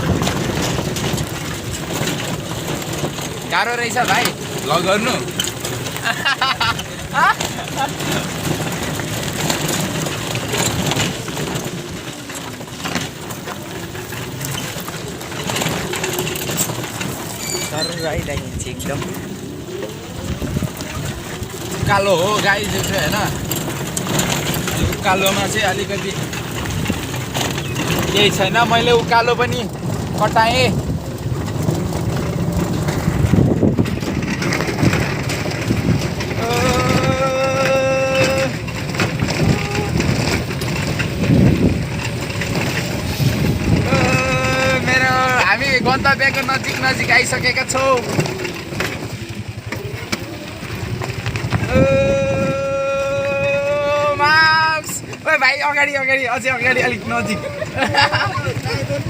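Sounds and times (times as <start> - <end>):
rickshaw rattling: 0.0 - 59.0
road noise: 0.0 - 59.0.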